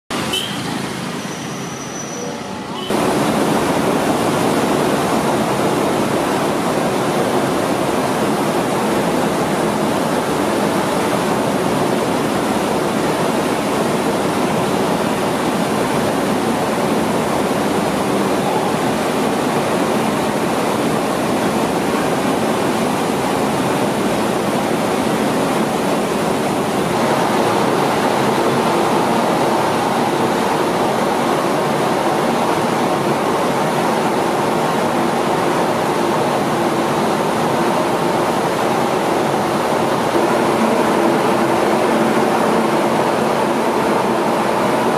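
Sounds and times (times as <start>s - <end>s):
rice mill machinery running: 2.9s - 44.9s.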